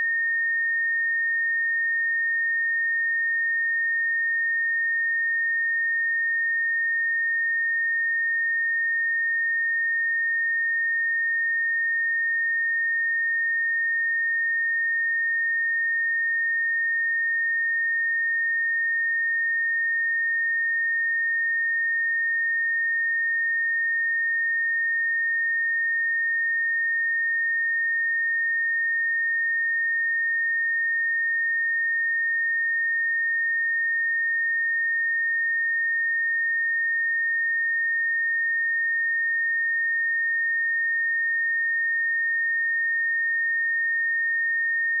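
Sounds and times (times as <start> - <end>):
high-pitched sine-wave tone: 0.0 - 45.0.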